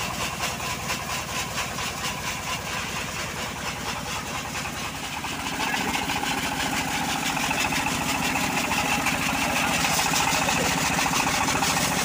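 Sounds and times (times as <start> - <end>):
diesel engine running sawmill: 0.0 - 12.0.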